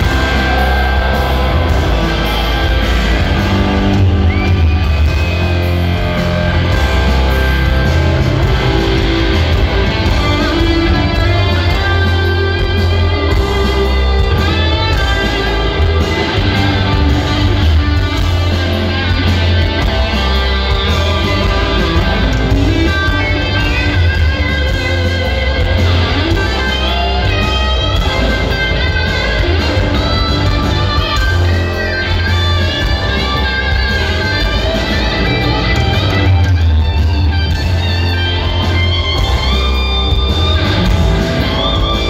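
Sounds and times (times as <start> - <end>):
live hard rock band: 0.0 - 42.0.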